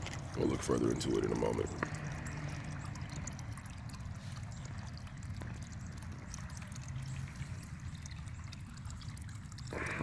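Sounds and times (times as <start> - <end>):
water splashing onto pond: 0.0 - 10.0.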